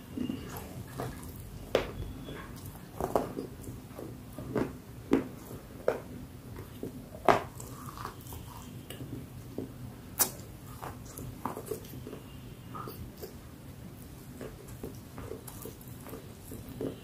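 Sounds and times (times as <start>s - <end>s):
person chewing with crunches: 0.0s - 17.0s.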